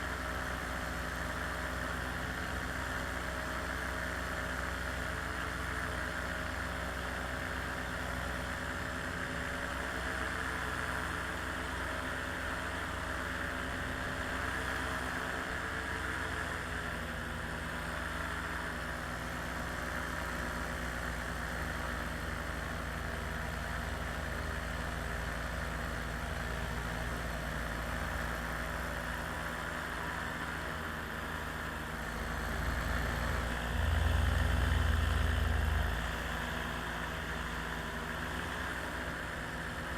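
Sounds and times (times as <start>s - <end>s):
small aircraft engine idling: 0.0s - 39.9s.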